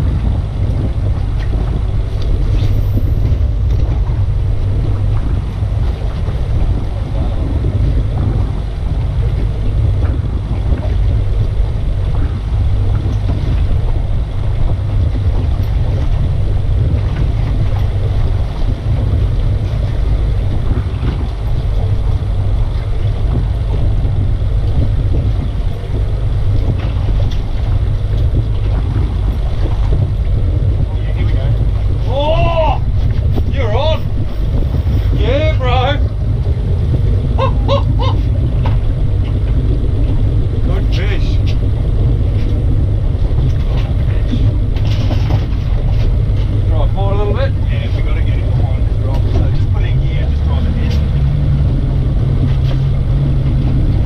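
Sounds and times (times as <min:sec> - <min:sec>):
sea noise: 0:00.0 - 0:54.0
wind buffeting microphone: 0:00.0 - 0:54.0.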